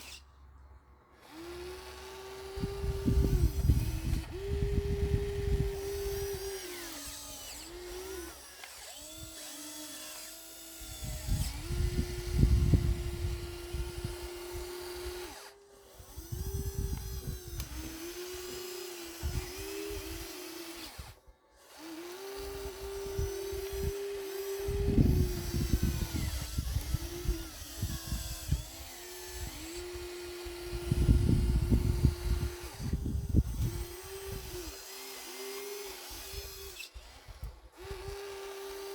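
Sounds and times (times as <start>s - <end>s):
small electric motors whining: 0.0s - 0.3s, 1.1s - 38.9s.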